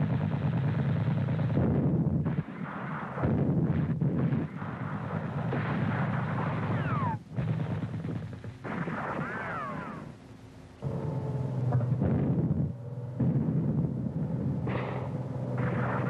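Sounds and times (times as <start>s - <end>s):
gunfire and artillery fire: 0.0s - 10.2s, 11.8s - 16.0s.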